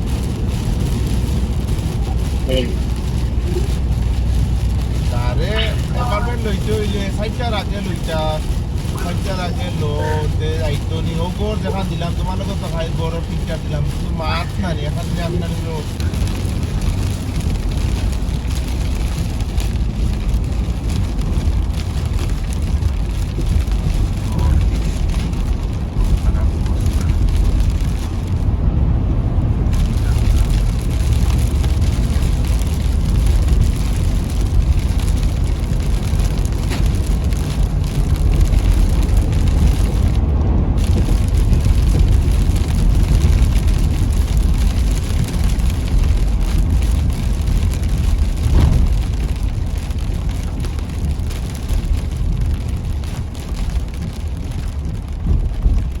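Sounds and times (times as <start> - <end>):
car road rumble inside cabin: 0.0 - 56.0
rain hiss: 0.0 - 56.0.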